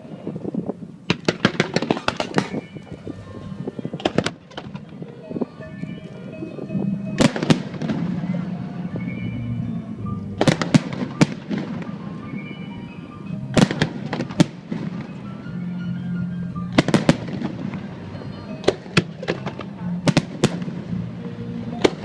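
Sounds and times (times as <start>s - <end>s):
fireworks bursting with sharp bangs: 0.0s - 5.6s, 7.0s - 9.2s, 10.3s - 15.6s, 16.7s - 22.0s
music playing: 1.2s - 22.0s.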